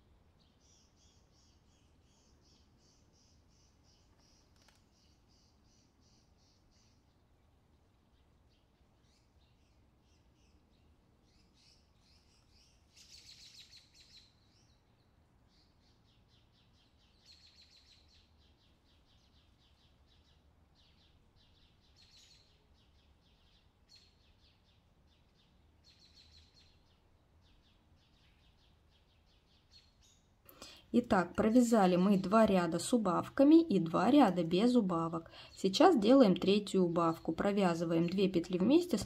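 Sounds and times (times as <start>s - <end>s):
faint high bird chirping: 0.0s - 39.0s.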